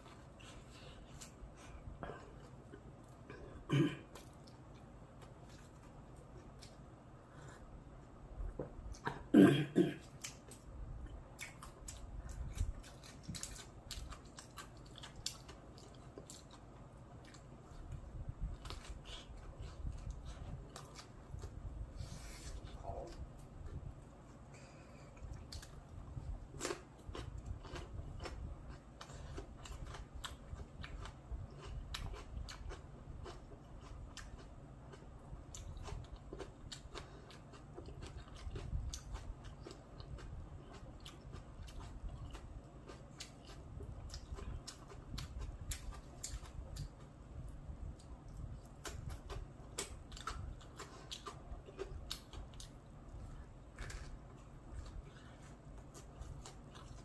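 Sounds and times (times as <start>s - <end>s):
low steady rumble: 0.0s - 57.0s
crunchy chewing: 10.0s - 47.2s, 47.9s - 57.0s.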